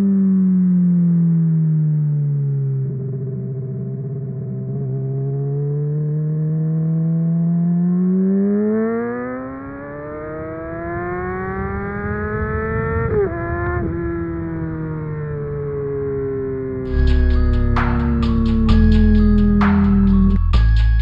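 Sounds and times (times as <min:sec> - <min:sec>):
muffled motorcycle engine revving: 0:00.0 - 0:21.0.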